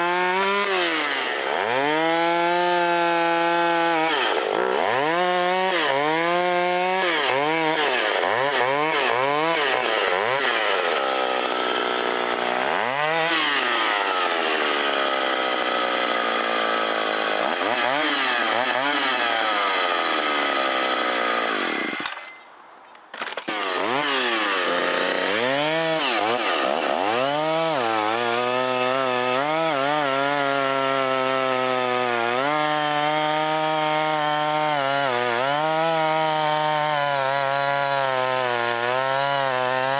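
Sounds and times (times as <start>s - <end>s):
chainsaw cutting log: 0.0s - 22.4s, 23.1s - 39.9s.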